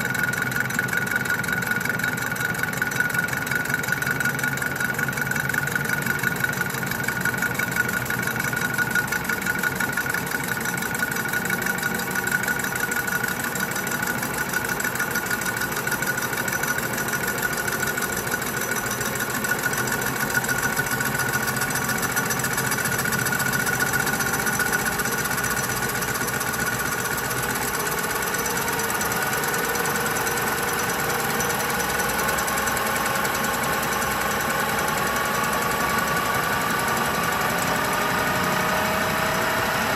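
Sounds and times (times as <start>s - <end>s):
low machine tone: 0.0s - 39.9s
metal lathe cutting with whine: 4.1s - 39.9s.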